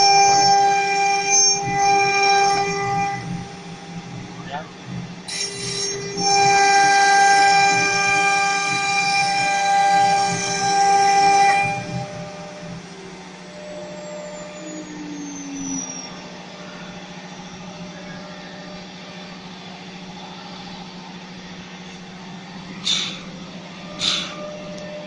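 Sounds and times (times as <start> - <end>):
cnc router humming: 0.0 - 25.0
faint falling whine: 0.0 - 25.0.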